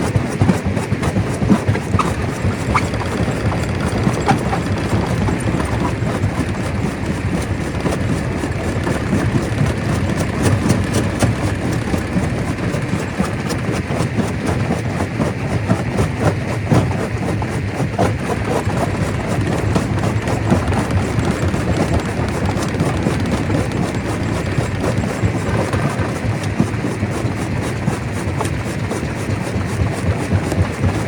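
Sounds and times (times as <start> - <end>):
stone crusher rumbling: 0.0 - 31.0.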